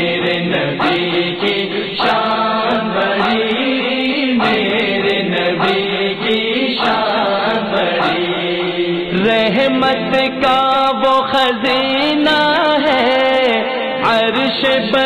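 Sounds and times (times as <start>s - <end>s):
men chanting: 0.0s - 15.0s.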